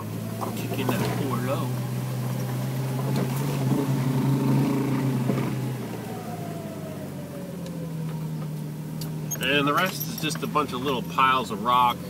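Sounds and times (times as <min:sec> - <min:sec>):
car engine pulling steadily: 0:00.0 - 0:12.0.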